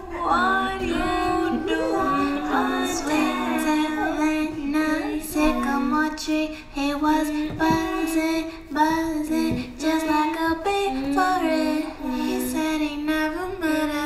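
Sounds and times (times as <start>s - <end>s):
woman singing slow melody: 0.0s - 14.0s.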